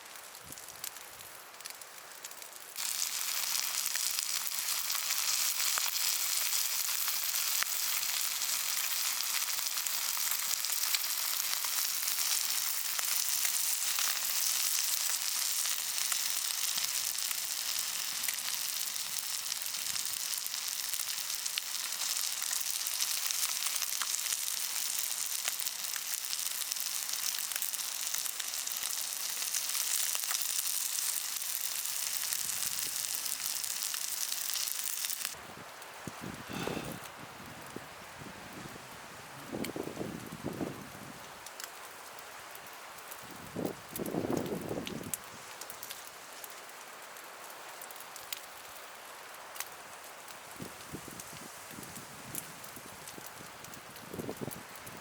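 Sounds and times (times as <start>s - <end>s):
food sizzling in hot oil: 2.6s - 35.4s, 41.6s - 55.0s.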